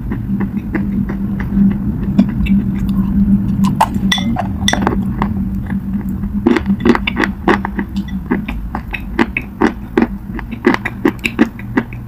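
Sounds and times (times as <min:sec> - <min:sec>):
low hum: 0:00.0 - 0:12.0
clay crunching when chewed: 0:00.1 - 0:12.0.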